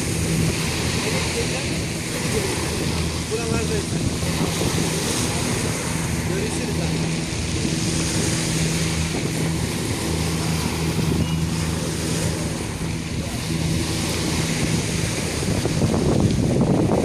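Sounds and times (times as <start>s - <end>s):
motorboat engine hum: 0.0s - 17.0s
wind on microphone: 0.0s - 17.0s.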